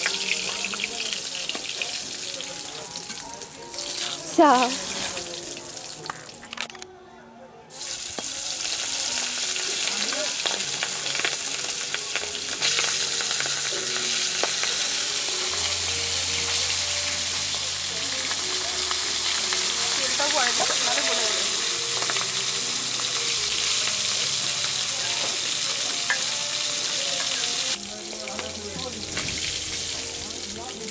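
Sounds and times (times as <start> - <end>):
fish sizzling in hot oil: 0.0 - 6.6, 7.8 - 30.9.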